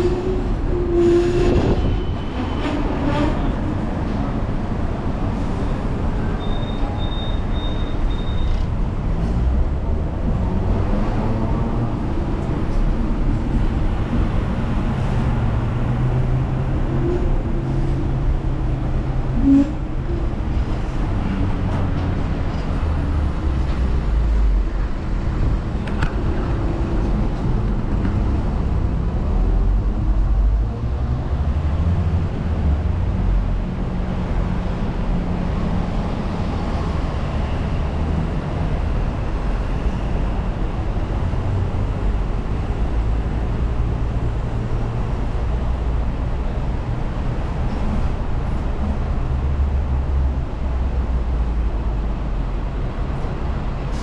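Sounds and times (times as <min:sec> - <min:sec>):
road traffic: 0:00.0 - 0:54.0
tram wheels and motor rumbling: 0:00.0 - 0:54.0.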